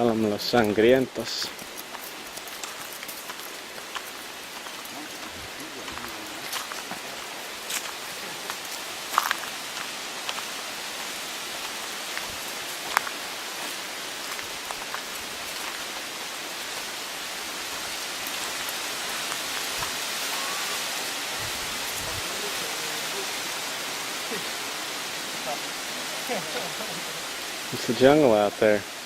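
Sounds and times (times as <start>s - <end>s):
jungle high hiss: 0.0s - 29.0s.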